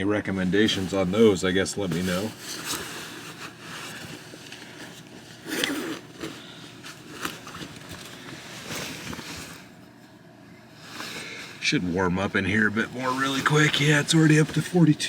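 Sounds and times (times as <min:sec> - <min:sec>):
rustling: 0:00.4 - 0:10.2, 0:12.5 - 0:15.0.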